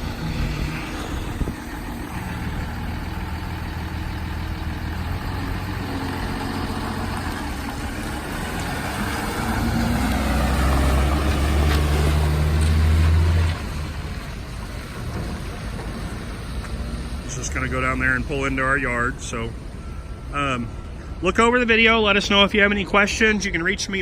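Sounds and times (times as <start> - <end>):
diesel truck engine pulling off: 0.0 - 23.7.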